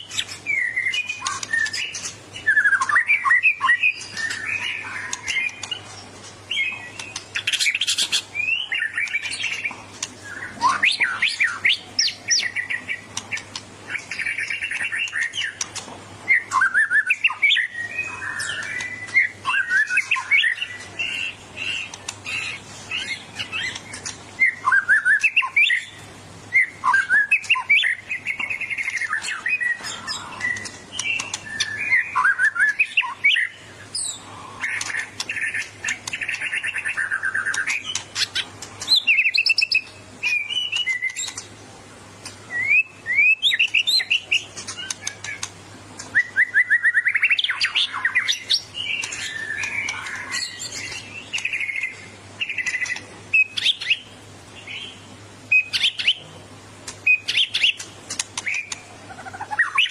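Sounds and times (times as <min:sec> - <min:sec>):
bird singing whistles and trills: 0:00.0 - 0:15.7, 0:16.3 - 0:41.5, 0:42.4 - 0:56.2, 0:57.0 - 0:59.9.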